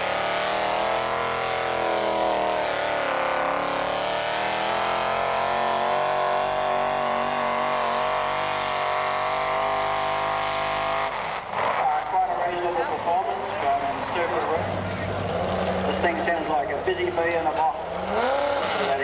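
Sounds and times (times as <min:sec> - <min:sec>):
tractor engine running hard: 0:00.0 - 0:19.0.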